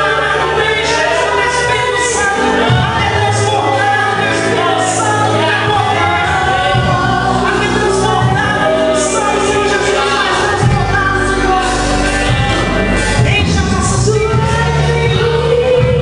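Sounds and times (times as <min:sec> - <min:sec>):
gospel band playing: 0:00.0 - 0:16.0
voices singing: 0:00.0 - 0:16.0.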